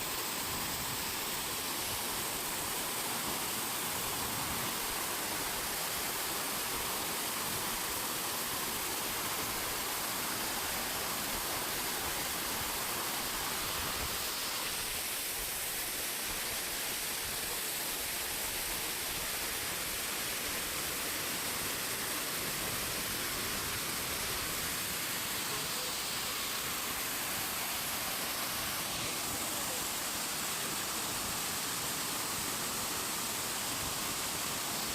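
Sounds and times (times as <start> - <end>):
waterfall splashing: 0.0 - 34.9.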